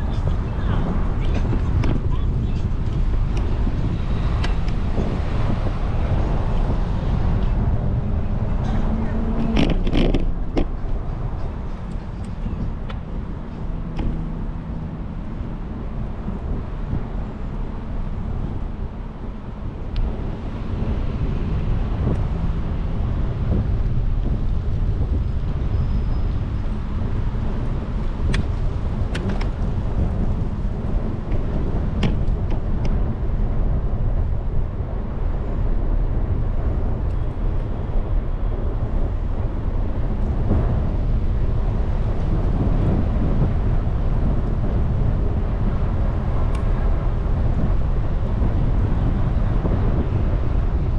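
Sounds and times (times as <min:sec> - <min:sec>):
bicycle tyre and road noise: 0:00.0 - 0:50.9
wind rumbling on microphone: 0:00.0 - 0:50.9.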